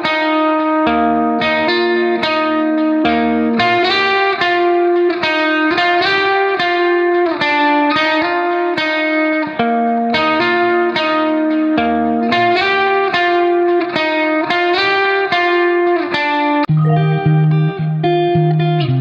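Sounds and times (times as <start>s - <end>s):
plucked guitar melody: 0.0s - 19.0s.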